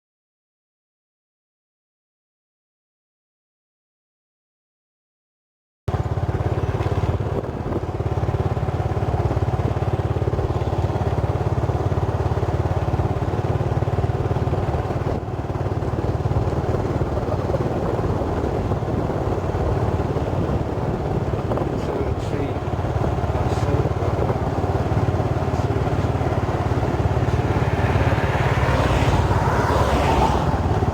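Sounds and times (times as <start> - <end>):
small engine running: 5.9 - 30.9.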